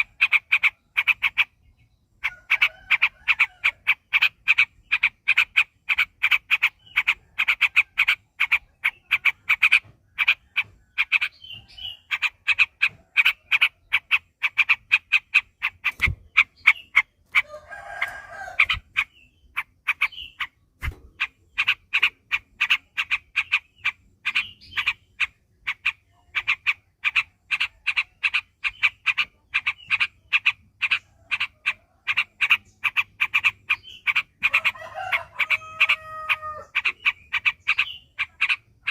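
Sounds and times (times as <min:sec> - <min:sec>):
bird singing rapid notes: 0:00.0 - 0:38.9.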